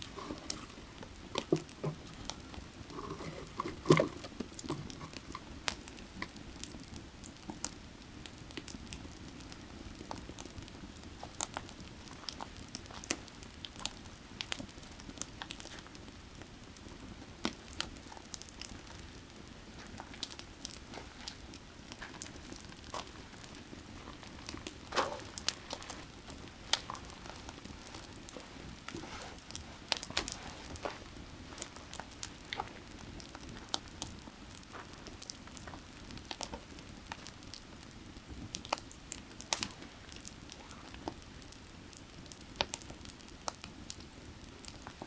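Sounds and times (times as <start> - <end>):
firewood crackling and popping: 0.0 - 45.0.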